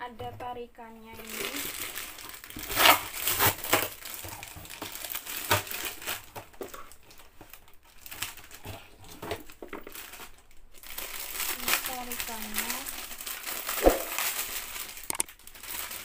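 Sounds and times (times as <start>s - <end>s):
plastic and cardboard crinkling: 0.2s - 16.0s.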